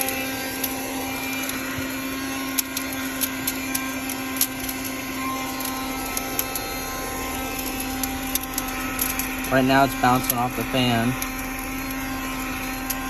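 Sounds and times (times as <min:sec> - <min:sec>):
debris clicking against fan: 0:00.0 - 0:13.0
handheld vacuum motor running: 0:00.0 - 0:13.0.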